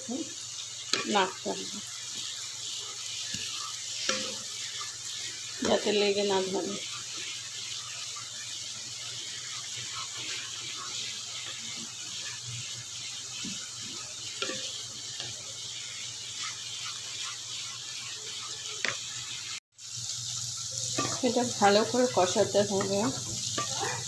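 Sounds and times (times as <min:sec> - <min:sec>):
paste bubbling and sizzling in pan: 0:00.0 - 0:24.0
wooden spatula scraping a pan: 0:00.8 - 0:19.6, 0:20.8 - 0:24.0.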